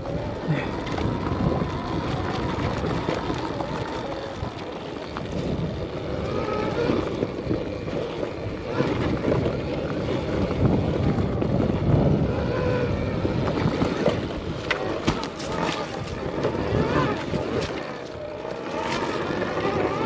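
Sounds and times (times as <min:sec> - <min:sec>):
bike rumbling and rattling: 0:00.0 - 0:20.0
faint electric motor whine: 0:00.0 - 0:20.0
wind buffeting microphone: 0:00.0 - 0:20.0.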